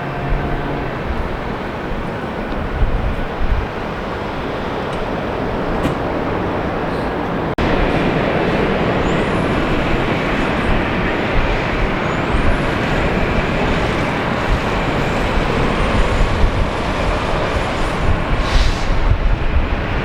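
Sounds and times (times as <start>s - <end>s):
jet engine rumble: 0.0s - 20.0s.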